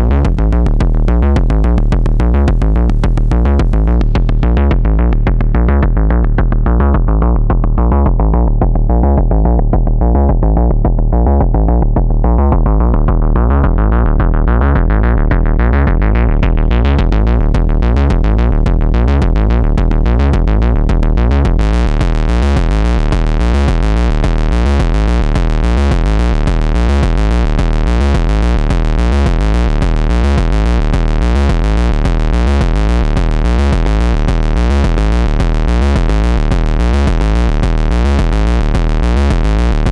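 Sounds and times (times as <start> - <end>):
distorted synth kick and bass loop: 0.0 - 39.9.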